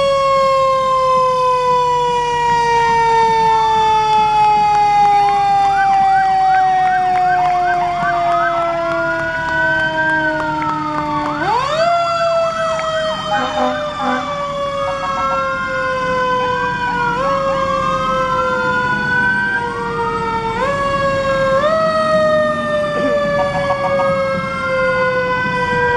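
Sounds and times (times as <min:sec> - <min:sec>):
deep fire truck siren: 0:00.0 - 0:25.9
high siren wailing: 0:00.0 - 0:25.9.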